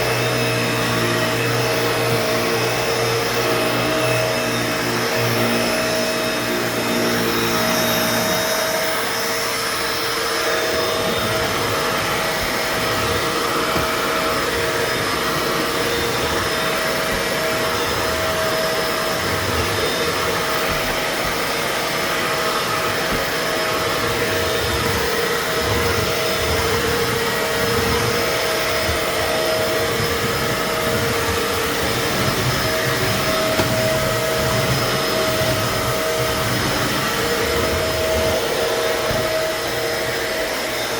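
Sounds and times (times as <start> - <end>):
upright vacuum running: 0.0 - 40.9.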